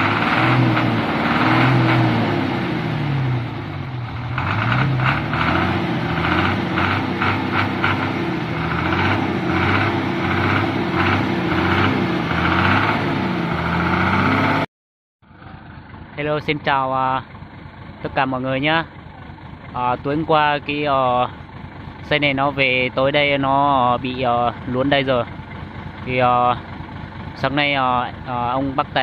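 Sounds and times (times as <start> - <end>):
diesel truck engine revving: 0.0 - 14.7, 19.7 - 29.0.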